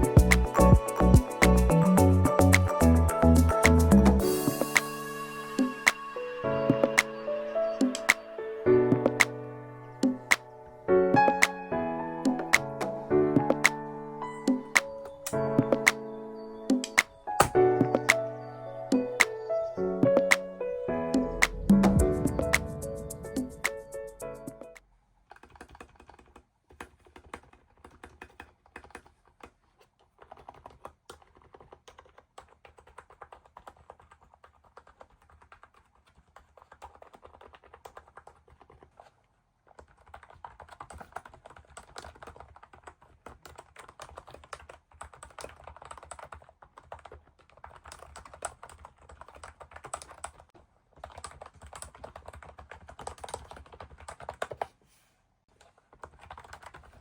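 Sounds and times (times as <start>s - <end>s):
soft keyboard typing: 0.0s - 7.2s, 7.8s - 20.6s, 21.2s - 54.8s, 55.5s - 57.0s.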